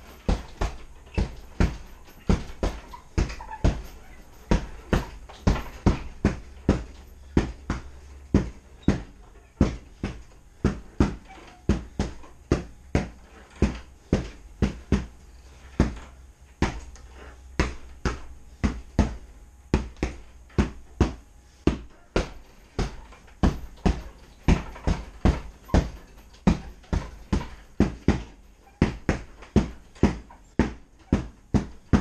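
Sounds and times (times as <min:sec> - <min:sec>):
punches thudding on heavy bag: 0:00.0 - 0:17.0, 0:17.6 - 0:32.0.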